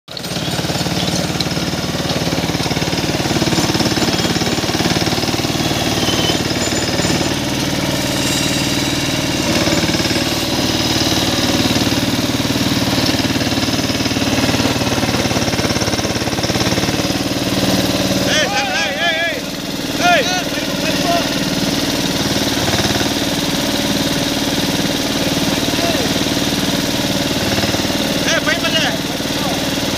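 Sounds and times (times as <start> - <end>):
tractor diesel engine under load: 0.1 - 29.9.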